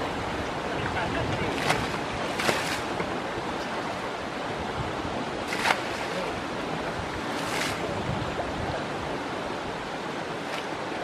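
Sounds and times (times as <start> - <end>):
shallow river water rushing: 0.0 - 11.0
water splashes: 0.0 - 11.0.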